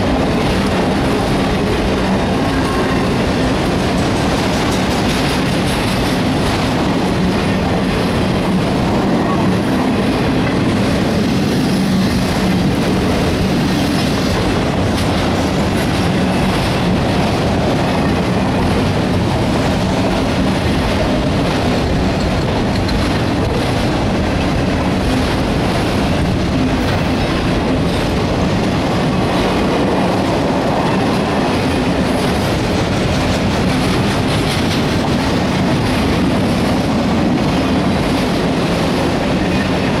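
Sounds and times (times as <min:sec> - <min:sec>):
steel wheels clicking over rail joints: 0:00.0 - 0:09.0, 0:09.7 - 0:40.0
freight train rolling past: 0:00.0 - 0:40.0.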